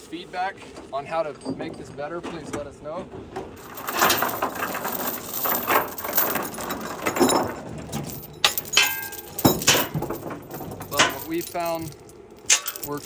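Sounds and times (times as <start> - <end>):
steel chain rattling and clanking: 1.0 - 13.0.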